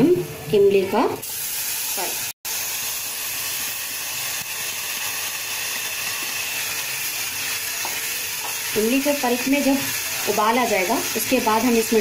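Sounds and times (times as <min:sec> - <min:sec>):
food sizzling in hot oil: 0:01.2 - 0:12.0.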